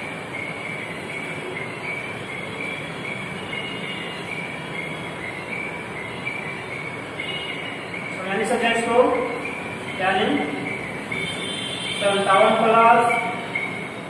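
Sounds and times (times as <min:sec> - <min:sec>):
high squeaky chirp: 0:00.0 - 0:14.0.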